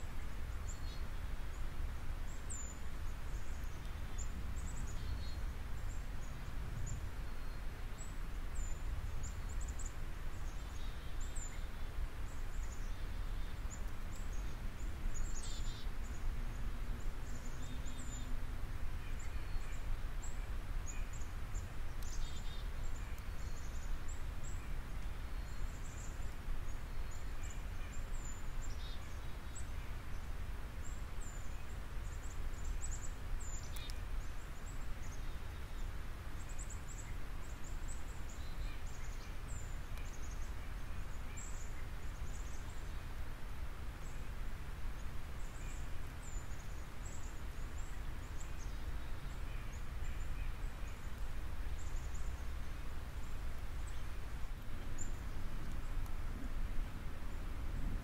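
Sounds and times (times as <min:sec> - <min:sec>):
low background noise: 0:00.0 - 0:58.0
small birds chirping: 0:00.0 - 0:58.0.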